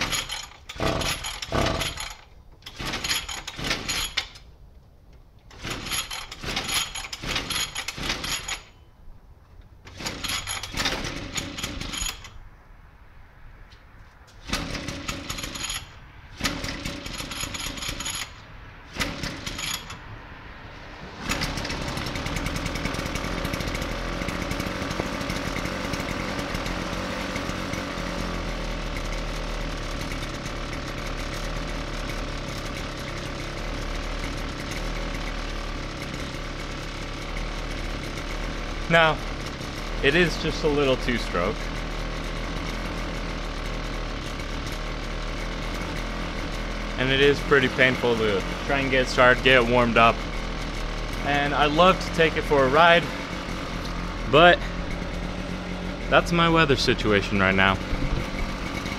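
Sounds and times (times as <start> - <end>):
two-stroke engine starting and running: 0.0 - 4.6, 5.2 - 12.6, 13.4 - 58.9.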